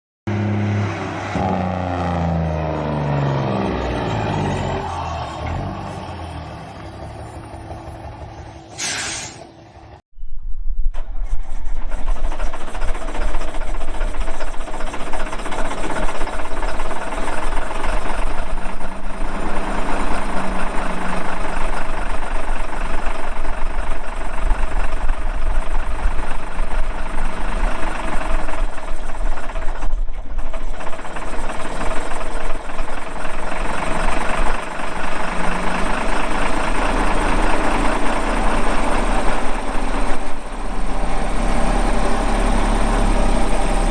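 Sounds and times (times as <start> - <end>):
diesel engine running: 0.3 - 10.0, 10.9 - 43.9.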